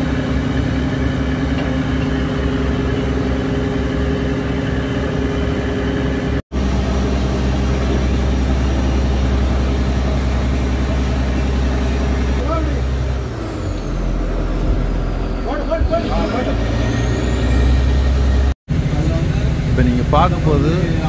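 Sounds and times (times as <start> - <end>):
boat diesel engine running: 0.0 - 21.0.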